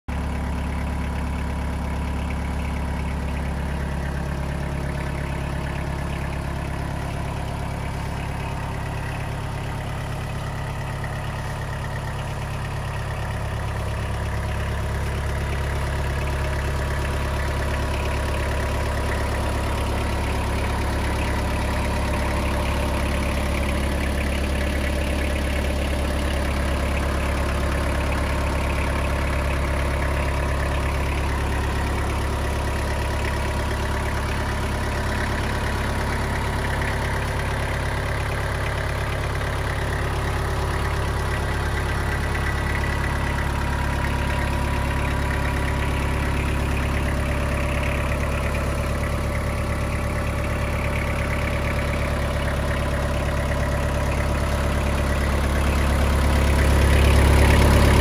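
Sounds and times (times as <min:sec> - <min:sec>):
diesel tractor engine idling: 0:00.0 - 0:58.0.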